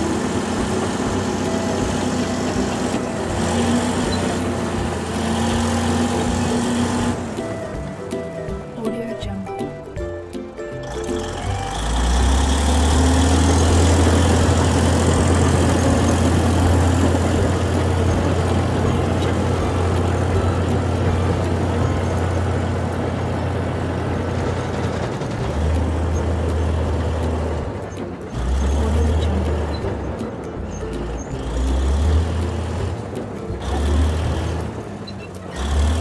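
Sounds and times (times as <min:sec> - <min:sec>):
heavy engine droning: 0:00.0 - 0:36.0.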